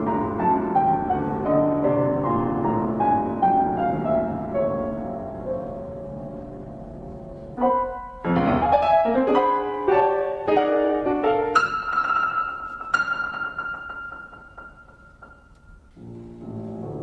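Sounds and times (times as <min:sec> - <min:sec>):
solo piano: 0:00.0 - 0:17.0.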